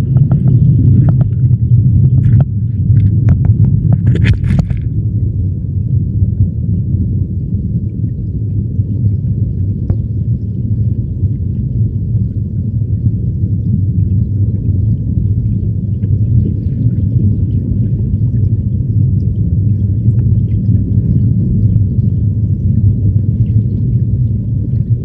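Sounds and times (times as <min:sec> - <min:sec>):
muffled underwater stream rumble: 0:00.0 - 0:25.0.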